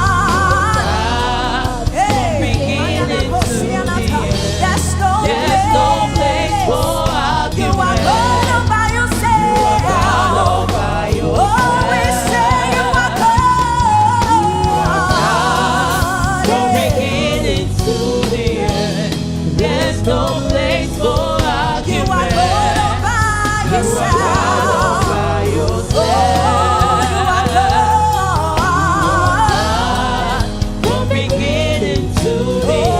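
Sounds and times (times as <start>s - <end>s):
band with steady bass line: 0.0s - 32.9s
person singing with vibrato: 0.0s - 32.9s.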